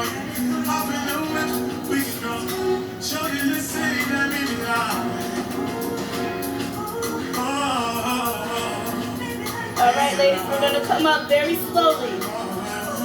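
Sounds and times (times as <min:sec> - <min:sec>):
live r and b song with band: 0:00.0 - 0:13.0.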